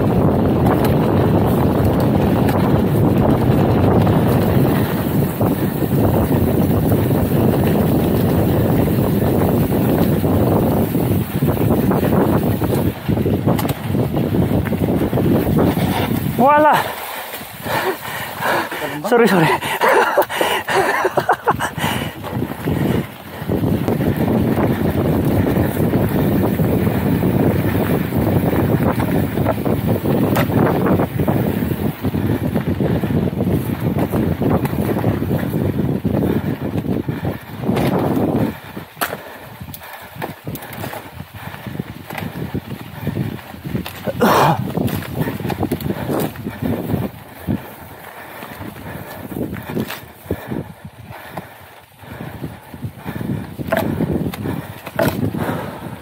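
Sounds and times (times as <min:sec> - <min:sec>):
bike tyres rolling on sandy dirt: 0:00.0 - 0:56.0
wind on microphone: 0:00.0 - 0:56.0.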